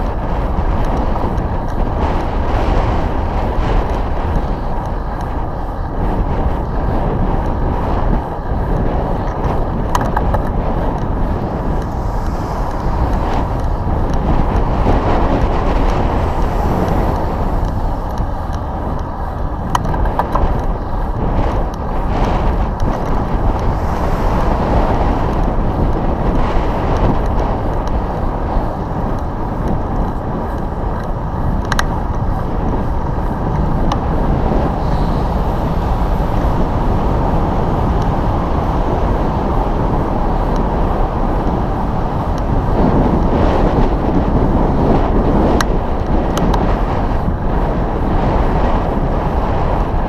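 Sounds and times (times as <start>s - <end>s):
passing road traffic: 0.0s - 50.0s
wind buffeting microphone: 0.0s - 50.0s.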